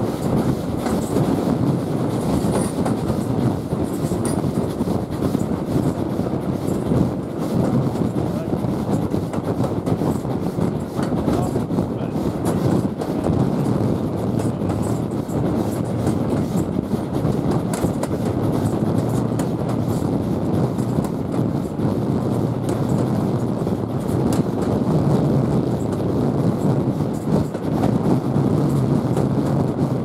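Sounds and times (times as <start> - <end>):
clickety-clack of rails: 0.0 - 30.0
train wheels rumbling on track: 0.0 - 30.0.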